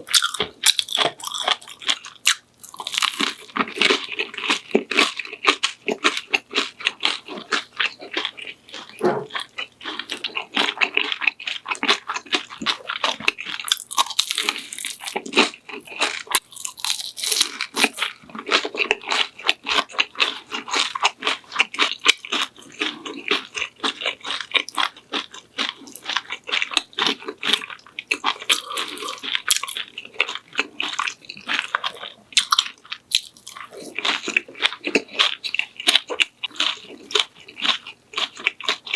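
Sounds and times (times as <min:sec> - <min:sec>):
crunching and chewing food: 0:00.0 - 0:38.9.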